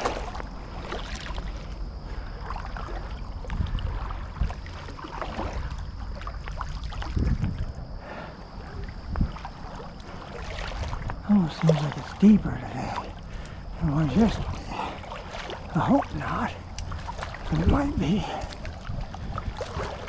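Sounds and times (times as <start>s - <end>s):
wading steps in shallow water: 0.0s - 20.0s
water sloshing and splashing: 0.0s - 20.0s
wind rumble on microphone: 0.0s - 20.0s.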